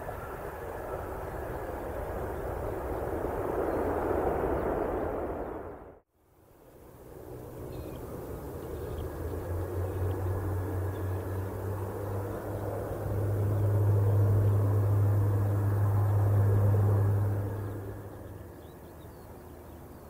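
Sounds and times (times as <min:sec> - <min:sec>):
jet engines rumbling: 0:00.0 - 0:06.0, 0:06.7 - 0:20.0.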